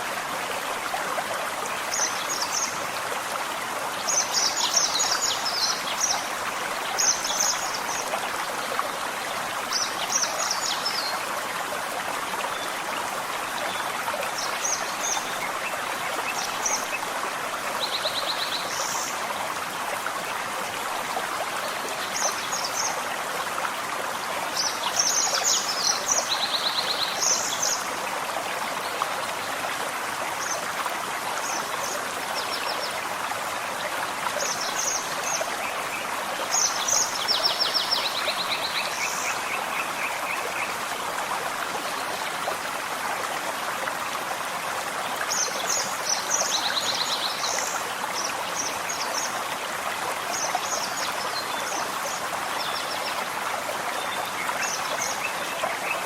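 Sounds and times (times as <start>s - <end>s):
forest stream running: 0.0s - 56.0s.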